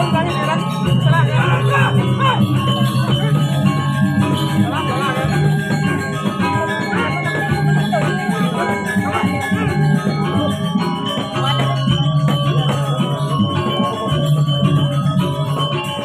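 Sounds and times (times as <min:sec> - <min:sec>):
ringing metallic tones: 0:00.0 - 0:16.0.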